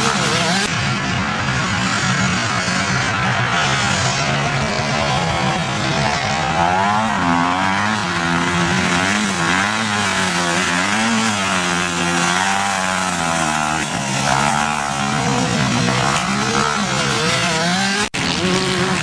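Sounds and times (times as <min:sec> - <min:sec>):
motocross motorcycle engines revving: 0:00.0 - 0:19.0.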